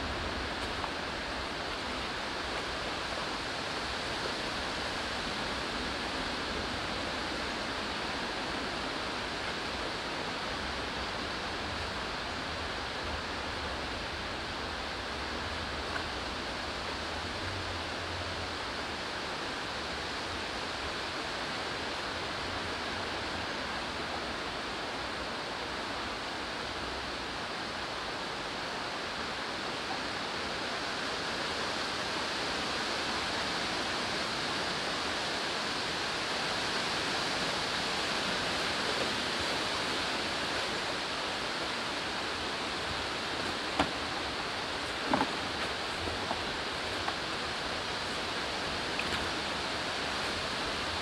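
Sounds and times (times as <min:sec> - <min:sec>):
stream rushing: 0:00.0 - 0:51.0.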